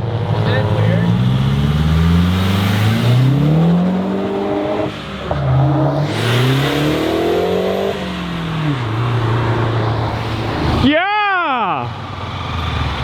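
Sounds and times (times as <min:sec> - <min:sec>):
car accelerating through gears: 0:00.0 - 0:10.8.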